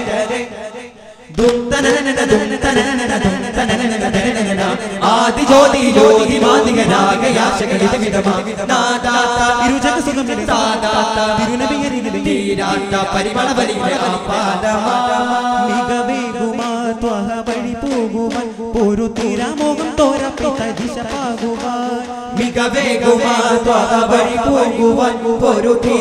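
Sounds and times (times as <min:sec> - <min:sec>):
boys chanting in unison: 0:00.0 - 0:26.0.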